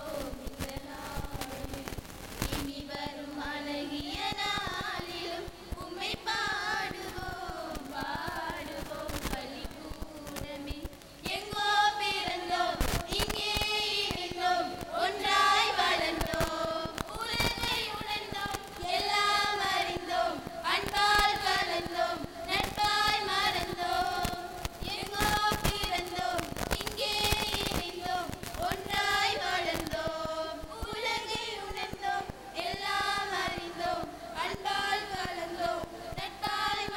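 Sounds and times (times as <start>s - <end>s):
women singing in unison: 0.0s - 36.9s.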